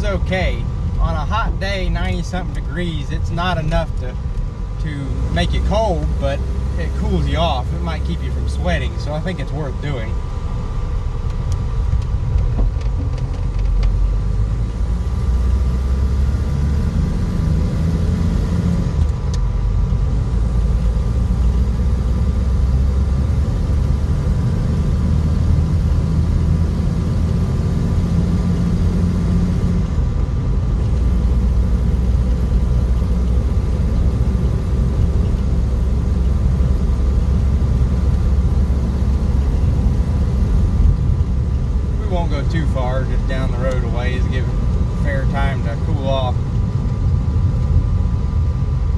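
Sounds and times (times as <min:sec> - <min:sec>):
car engine and road rumble: 0:00.0 - 0:48.9.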